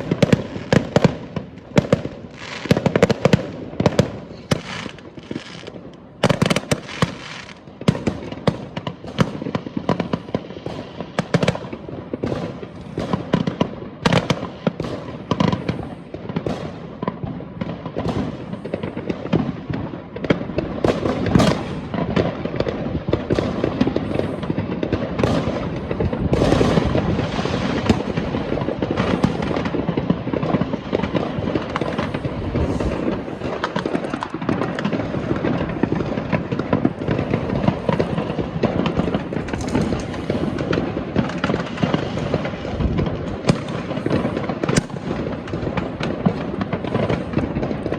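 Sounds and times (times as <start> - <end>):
distant fireworks crackling: 0.0 - 47.9
fireworks banging: 0.0 - 47.9.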